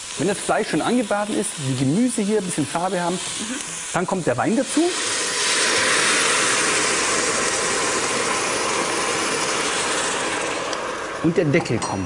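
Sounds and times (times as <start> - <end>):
wine sizzling in a hot pot: 0.0 - 12.0.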